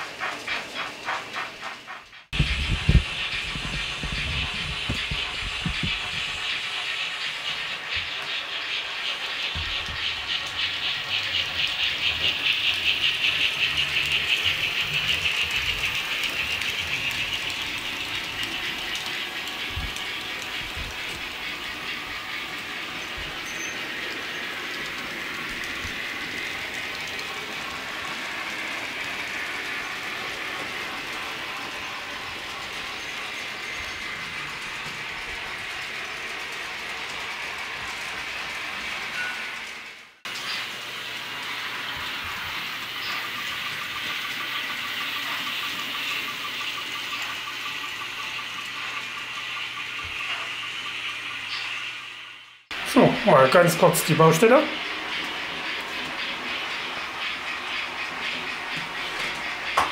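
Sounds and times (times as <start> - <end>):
model trains running: 0.0 - 59.9.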